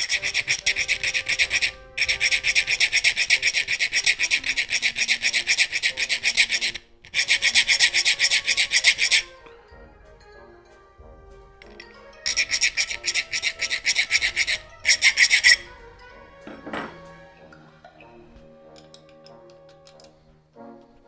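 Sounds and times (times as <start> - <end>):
hand file scraping metal: 0.0 - 9.5, 11.5 - 20.2.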